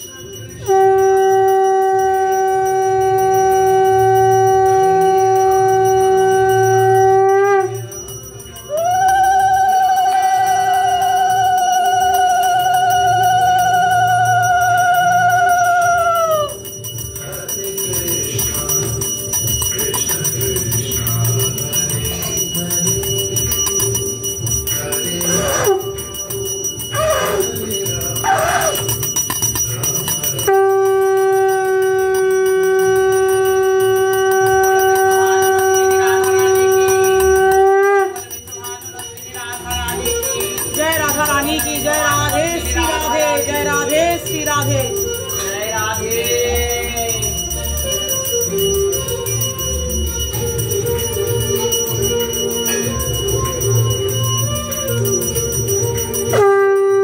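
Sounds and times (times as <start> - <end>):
conch shell blown in long notes: 0.0 - 17.0, 20.8 - 57.0
bell ringing: 0.0 - 57.0.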